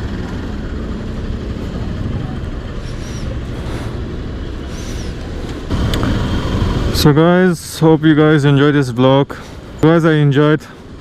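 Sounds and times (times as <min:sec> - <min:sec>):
motorcycle engine and wind rumble: 0:00.0 - 0:11.0.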